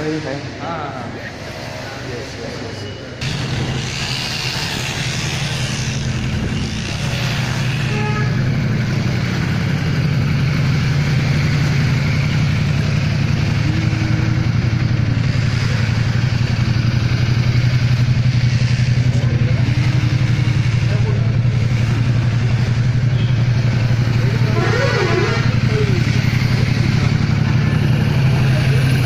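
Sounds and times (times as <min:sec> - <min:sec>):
motorcycle engine idling: 0:03.2 - 0:29.0.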